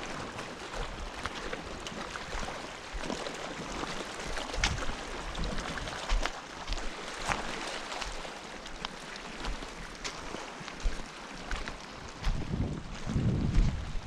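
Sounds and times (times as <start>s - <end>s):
wind rumble on microphone: 0.0s - 7.6s, 9.4s - 14.0s
water washing along rocky shore: 0.0s - 14.0s.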